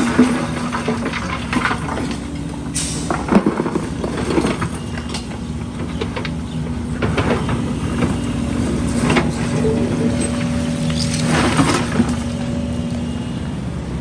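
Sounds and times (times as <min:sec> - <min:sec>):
concrete rubble clanking and scraping: 0:00.0 - 0:13.0
heavy diesel machinery running: 0:00.0 - 0:14.0.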